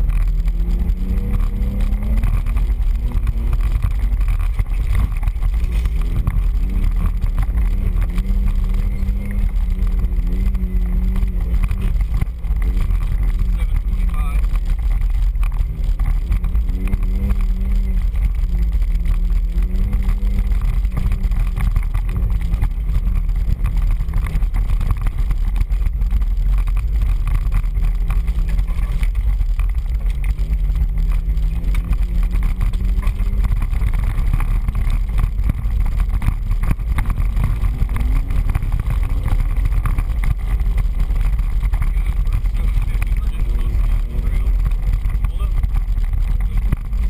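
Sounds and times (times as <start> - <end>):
buffeting and jolting rumble: 0.0 - 47.0
off-road engine revving: 0.0 - 47.0.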